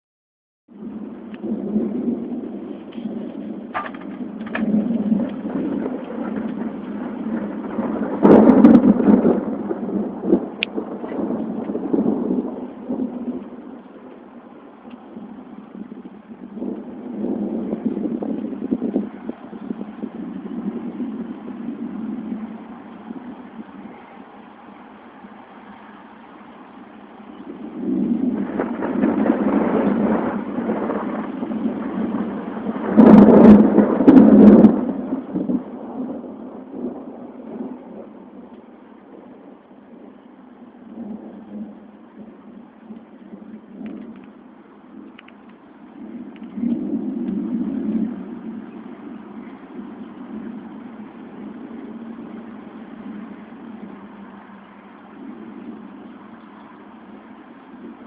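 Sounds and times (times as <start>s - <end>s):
thunder rumbling: 0.7s - 58.0s.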